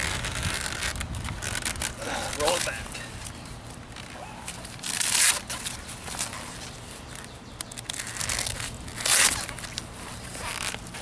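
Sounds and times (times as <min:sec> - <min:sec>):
fabric and vinyl rustling: 0:00.0 - 0:11.0.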